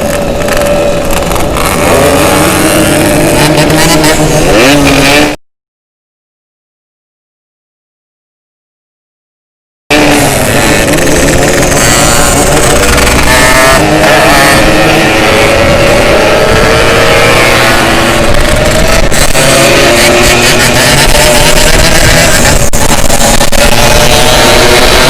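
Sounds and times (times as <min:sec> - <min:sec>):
two-stroke motorcycle accelerating: 0:00.0 - 0:05.4, 0:09.9 - 0:25.0.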